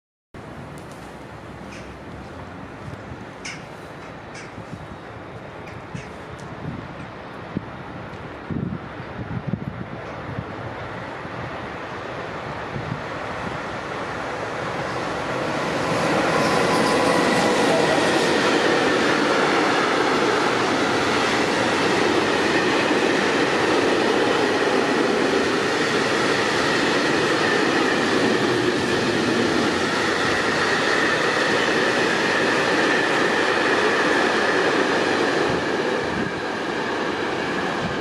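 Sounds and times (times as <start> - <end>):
train wheels rumbling on rail: 0.4 - 38.0.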